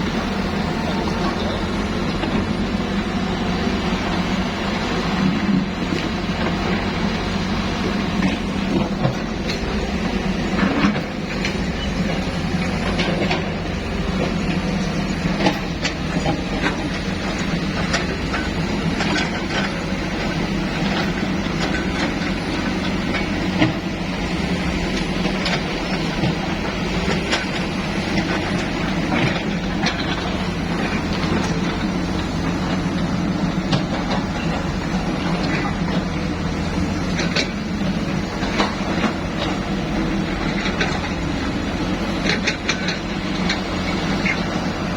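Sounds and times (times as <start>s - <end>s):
construction machine engine running: 0.0s - 44.9s.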